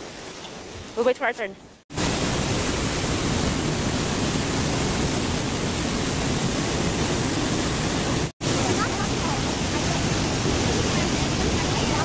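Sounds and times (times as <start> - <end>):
waterfall rushing: 1.9 - 12.0.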